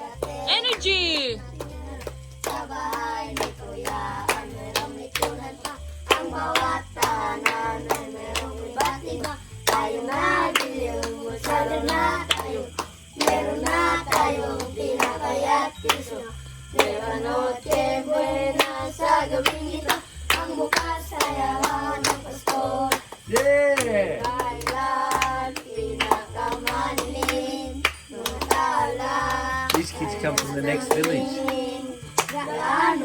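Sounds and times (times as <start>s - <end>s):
children singing: 0.0s - 33.0s
claps or percussion beat: 0.0s - 33.0s
low steady notes: 0.0s - 33.0s.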